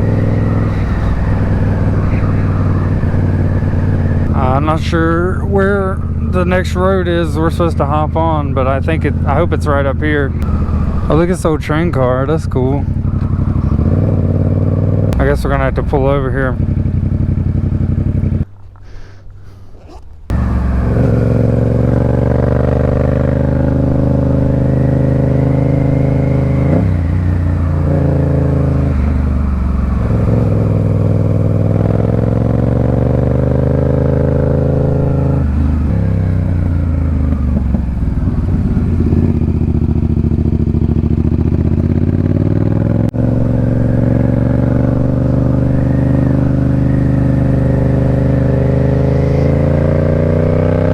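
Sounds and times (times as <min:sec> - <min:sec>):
motorcycle engine shifting gears: 0:00.0 - 0:18.9, 0:19.8 - 0:50.9.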